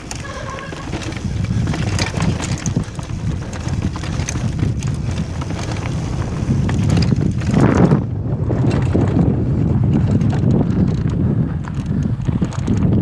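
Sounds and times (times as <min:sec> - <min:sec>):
bike rattling: 0:00.0 - 0:13.0
bike tyres over rock: 0:00.0 - 0:13.0
wind rushing over microphone: 0:00.0 - 0:13.0.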